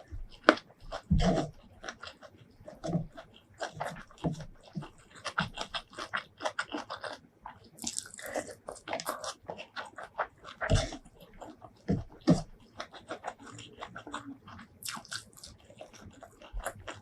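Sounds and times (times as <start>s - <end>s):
wet chewing and crunching: 0.0s - 17.0s.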